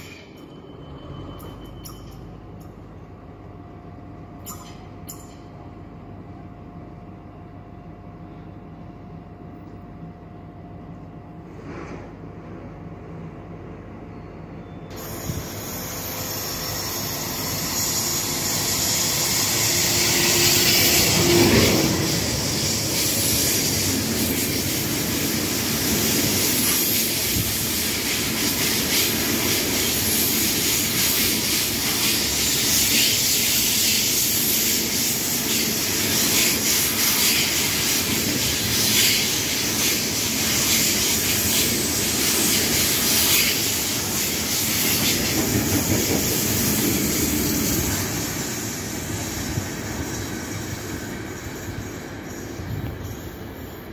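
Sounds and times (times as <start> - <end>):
freight train wheels on rail: 0.0 - 53.9.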